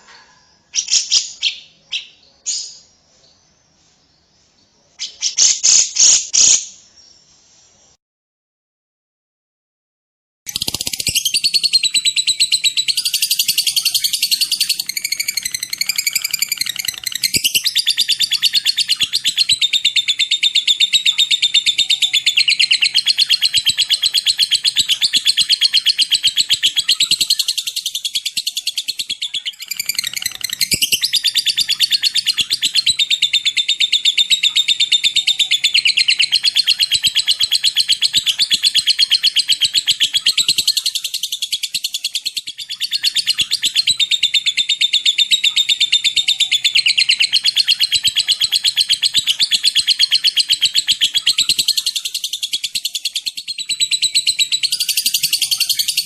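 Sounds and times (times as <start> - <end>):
songbird chattering song: 10.5 - 56.0.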